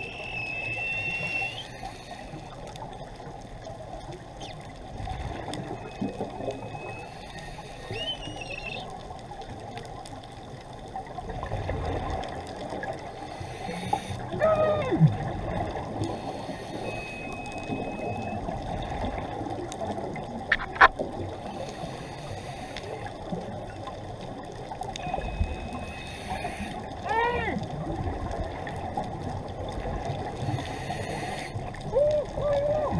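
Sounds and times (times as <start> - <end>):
muffled underwater wash: 0.0 - 32.9.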